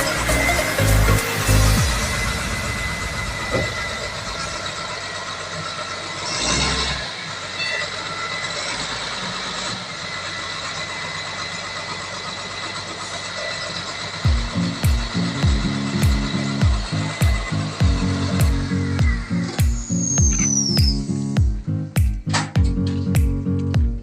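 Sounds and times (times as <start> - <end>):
construction machinery diesel engine: 0.0 - 24.0.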